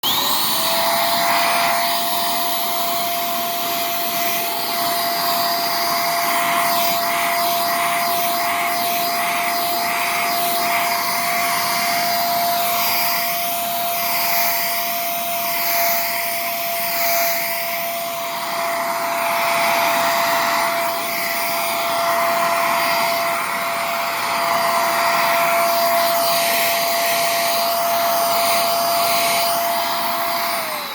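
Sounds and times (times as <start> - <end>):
vacuum cleaner running: 0.0 - 30.9.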